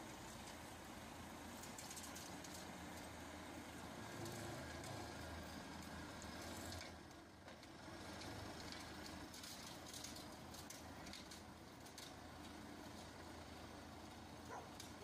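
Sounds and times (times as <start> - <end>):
tractor and mower humming: 0.0 - 15.0.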